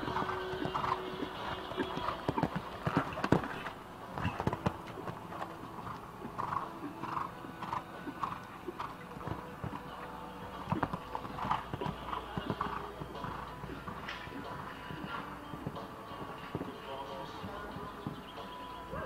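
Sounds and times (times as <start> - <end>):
hoofbeats on sand: 0.0 - 19.0.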